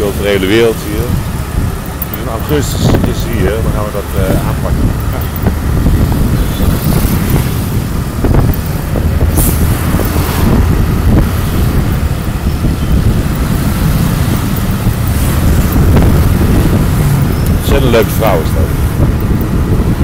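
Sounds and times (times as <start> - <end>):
bus passing: 0.0 - 20.0
rumble of traffic engines: 0.0 - 20.0
scooters passing: 0.0 - 20.0.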